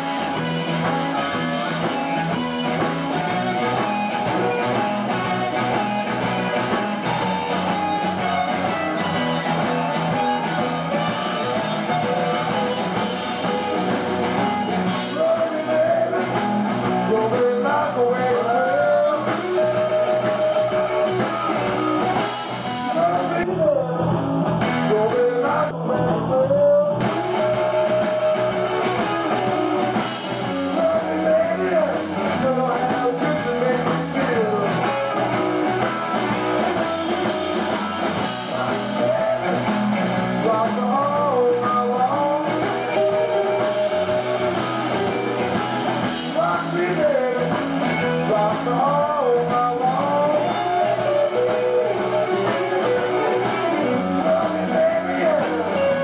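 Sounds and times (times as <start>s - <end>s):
blues band playing: 0.0s - 56.0s
lead guitar with bent notes: 0.0s - 56.0s.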